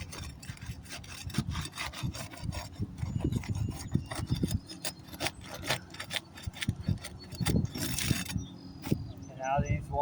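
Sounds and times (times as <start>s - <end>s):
roof shingles scraping and crackling: 0.0s - 8.4s.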